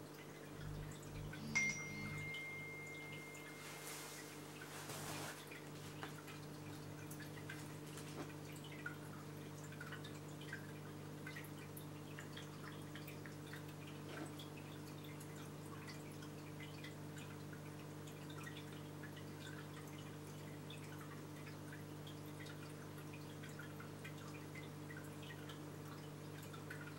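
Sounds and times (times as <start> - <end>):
pump hum: 0.0 - 26.9
water dripping and trickling: 0.0 - 26.9.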